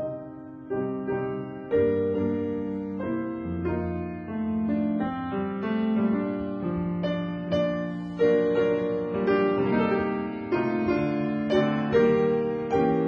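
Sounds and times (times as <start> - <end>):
slow piano notes: 0.0 - 13.0.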